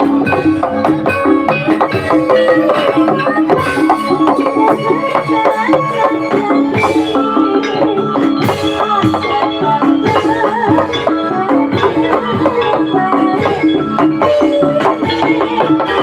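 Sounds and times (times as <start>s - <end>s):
steady drumming: 0.0s - 16.0s.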